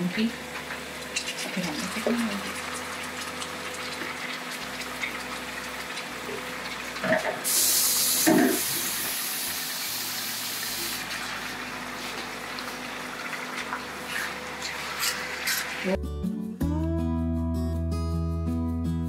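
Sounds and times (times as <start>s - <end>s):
chicken sizzling in hot oil: 0.1s - 16.0s.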